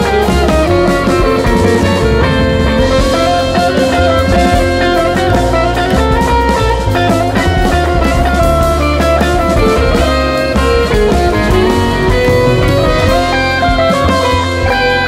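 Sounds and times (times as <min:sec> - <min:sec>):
guitar: 0:00.0 - 0:15.0
instrumental band playing: 0:00.0 - 0:15.0.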